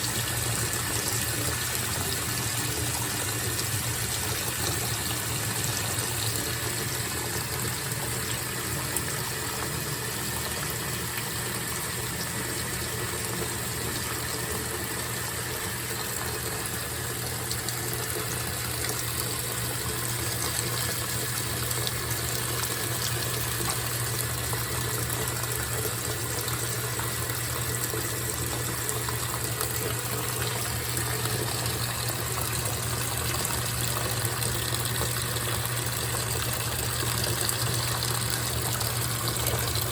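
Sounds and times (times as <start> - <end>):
washing machine low hum: 0.0 - 39.9
water rushing in washing machine: 0.0 - 39.9.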